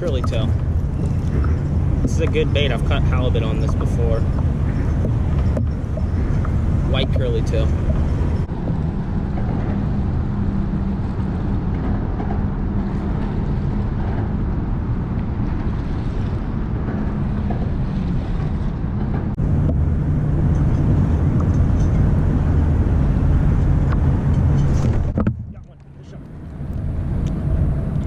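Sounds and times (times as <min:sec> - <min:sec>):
boat motor drone: 0:00.0 - 0:28.0
wind noise on microphone: 0:00.0 - 0:28.0.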